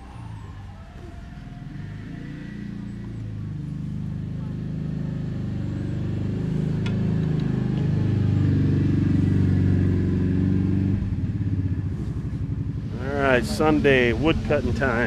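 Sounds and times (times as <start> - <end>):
vehicle engine running under load: 0.0 - 15.0.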